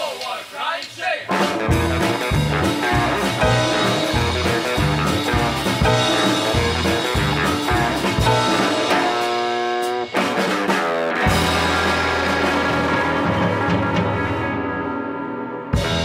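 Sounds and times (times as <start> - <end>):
live band playing: 1.2 - 16.0.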